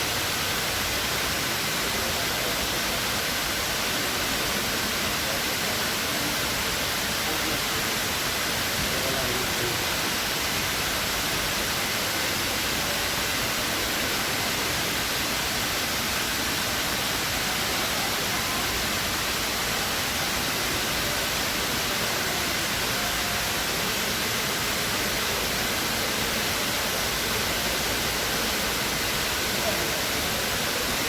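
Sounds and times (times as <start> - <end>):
waterfall cascading into pool: 0.0 - 31.0.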